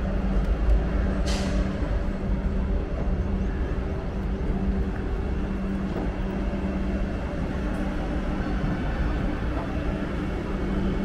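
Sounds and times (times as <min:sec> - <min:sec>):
electric train rumble and hum: 0:00.0 - 0:11.0.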